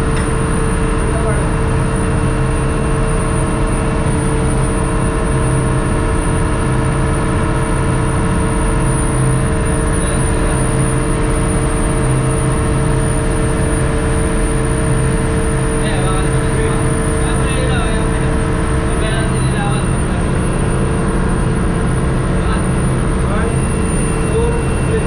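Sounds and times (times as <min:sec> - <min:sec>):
engine room machinery drone: 0:00.0 - 0:25.0.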